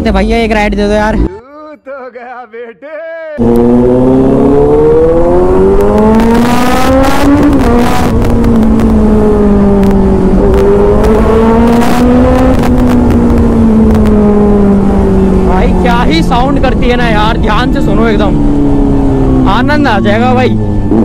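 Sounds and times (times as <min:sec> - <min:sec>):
motorcycle engine accelerating: 0:03.4 - 0:21.0.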